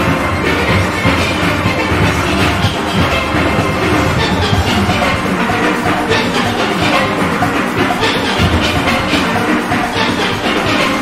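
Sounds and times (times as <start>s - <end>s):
steady drum beat: 0.0s - 11.0s
steelpans playing together: 0.0s - 11.0s.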